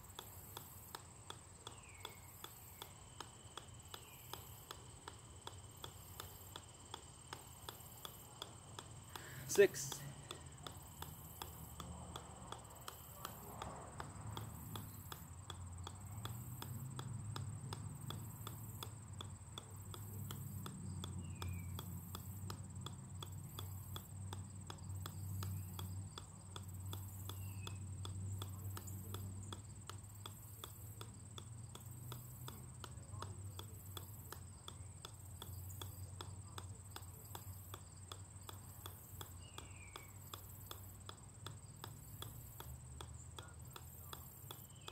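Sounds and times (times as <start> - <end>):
golf ball bouncing on metal: 0.0 - 44.9.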